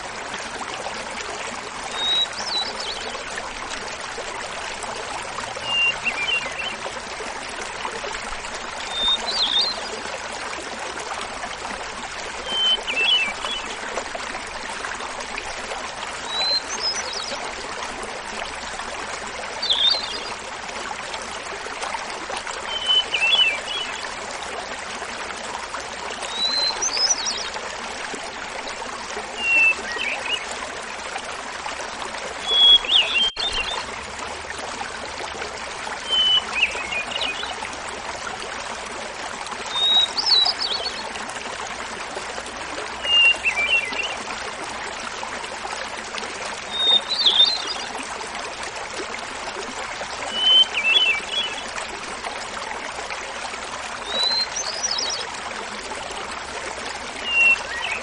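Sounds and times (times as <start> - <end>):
small waterfall rushing: 0.0 - 58.0.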